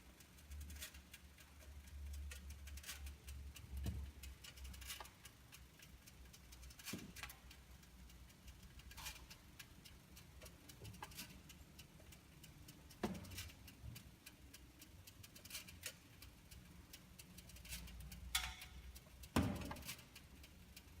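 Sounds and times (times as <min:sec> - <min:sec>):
car clicks and rattling ticks: 0:00.0 - 0:21.0.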